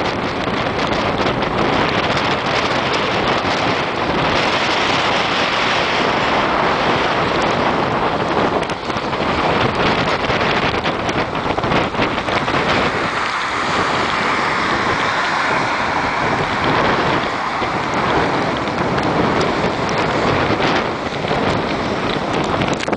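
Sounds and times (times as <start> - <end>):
rain: 0.0 - 22.9
wind buffeting microphone: 0.0 - 22.9.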